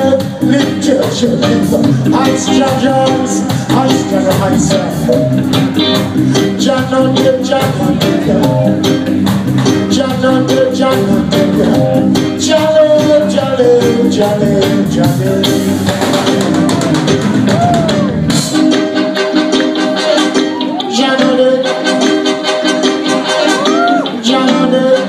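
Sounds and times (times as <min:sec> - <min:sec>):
person singing into microphone: 0:00.0 - 0:09.0, 0:09.6 - 0:18.0, 0:20.4 - 0:22.6, 0:23.2 - 0:25.0
live reggae band playing: 0:00.0 - 0:25.0.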